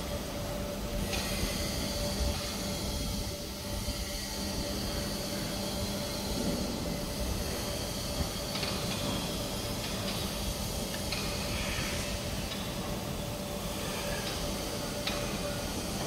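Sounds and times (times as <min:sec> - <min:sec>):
hiss: 0:01.0 - 0:16.0.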